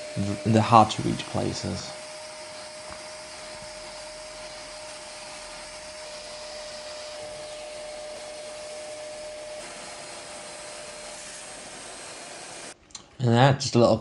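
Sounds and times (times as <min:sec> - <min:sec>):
vacuum cleaner running: 0:00.0 - 0:12.8
vacuum cleaner whine: 0:00.0 - 0:12.8.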